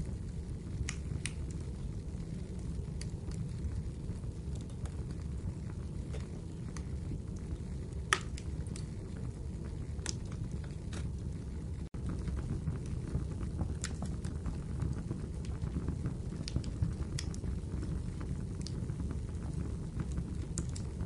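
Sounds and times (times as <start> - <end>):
fire rumbling: 0.0 - 21.0
wood crackling and popping: 0.0 - 21.0.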